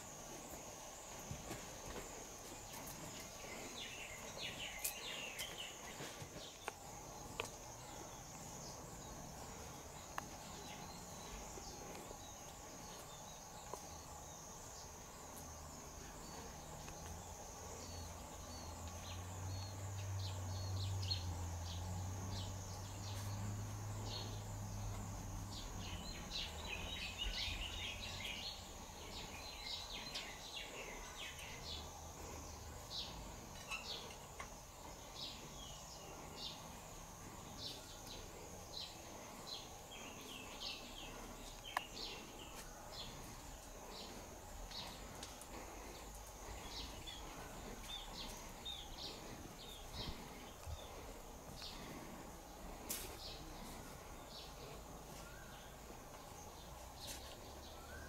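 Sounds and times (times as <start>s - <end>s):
high insect buzz: 0.0s - 55.8s
small birds chirping: 0.0s - 58.0s.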